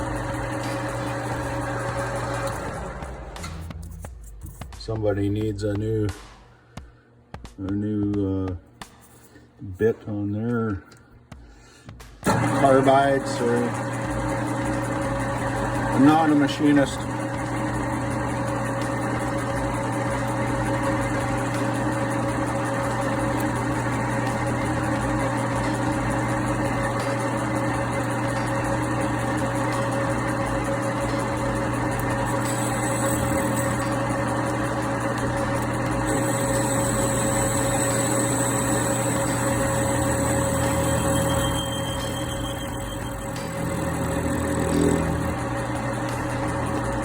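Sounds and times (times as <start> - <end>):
metal lathe humming: 0.0 - 3.8, 12.2 - 47.0.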